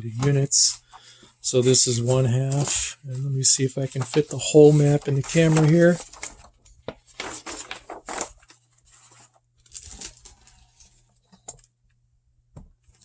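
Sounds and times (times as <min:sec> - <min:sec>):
paper map rustling: 0:00.0 - 0:11.8.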